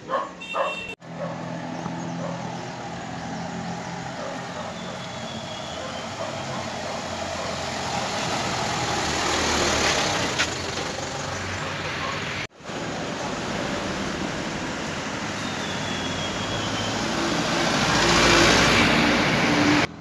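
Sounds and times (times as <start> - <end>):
vehicle engine passing by: 1.0 - 19.9.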